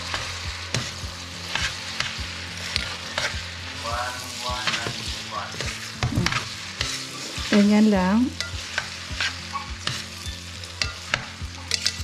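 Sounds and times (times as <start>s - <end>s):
oil sizzling in a pan: 0.0s - 12.0s
tongs clicking and scraping on pan: 0.0s - 12.0s.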